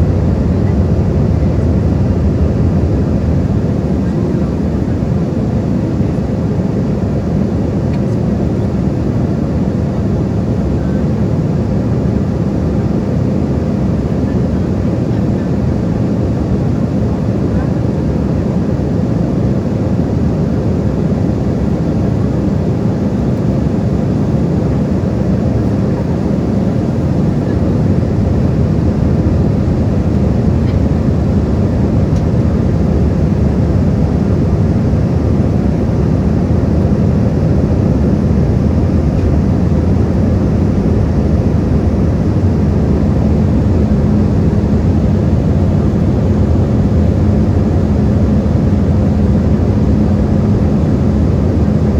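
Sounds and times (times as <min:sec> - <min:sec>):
airliner cabin engine roar: 0:00.0 - 0:51.9.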